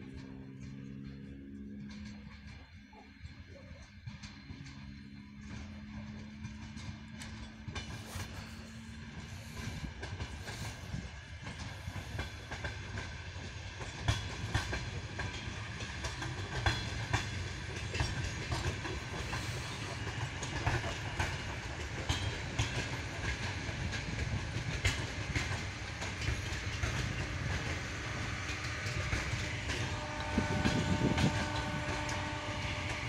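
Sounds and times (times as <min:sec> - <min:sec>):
train rumble: 0:00.0 - 0:33.0
train wheels clicking over joints: 0:00.0 - 0:33.0.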